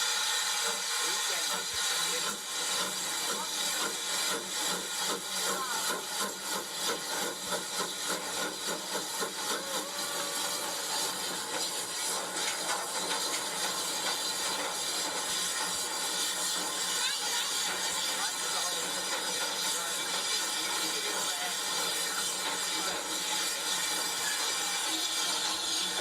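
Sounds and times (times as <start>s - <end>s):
steam hissing: 0.0s - 26.0s
steam locomotive chuffing: 0.0s - 26.0s.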